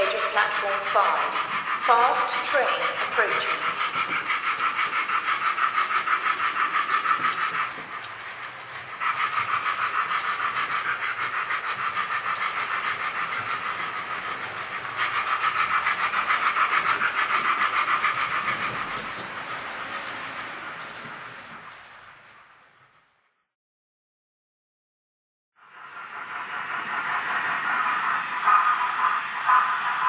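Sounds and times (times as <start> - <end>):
model locomotive exhaust chuffs: 0.0 - 21.3, 25.6 - 30.0.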